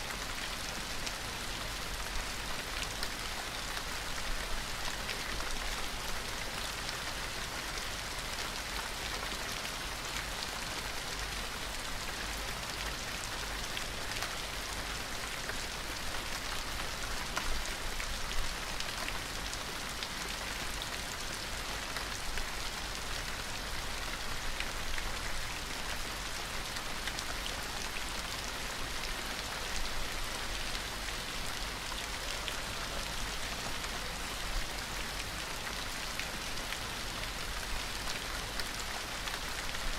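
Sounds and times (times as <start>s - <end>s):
gentle rain patter: 0.0s - 39.9s.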